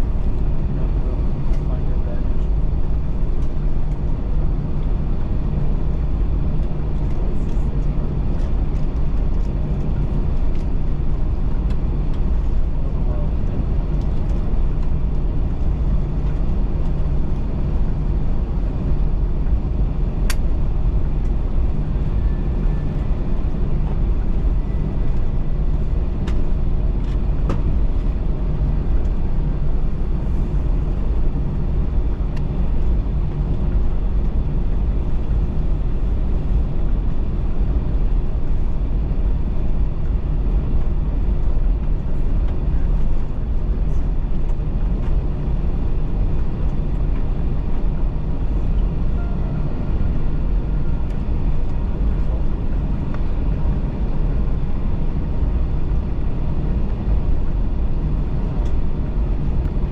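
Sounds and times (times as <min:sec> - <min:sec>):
aircraft cabin rumble and hum: 0:00.0 - 0:59.9.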